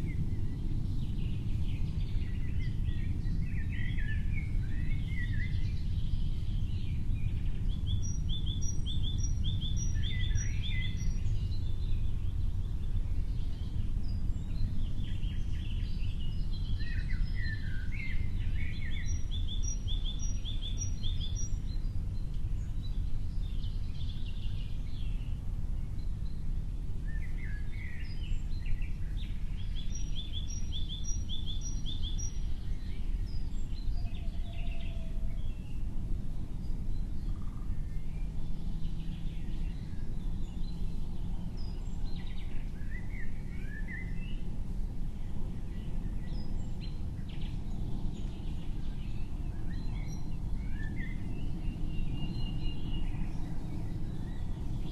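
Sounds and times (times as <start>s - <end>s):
bird song phrase: 0.0s - 35.9s, 36.5s - 44.5s, 45.2s - 54.9s.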